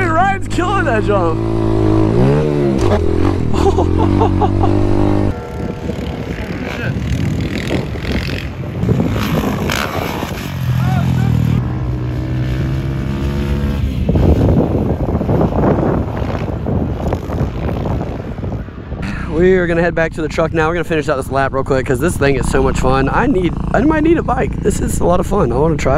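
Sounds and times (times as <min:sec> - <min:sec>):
dirt bike engines revving: 0:00.0 - 0:25.9.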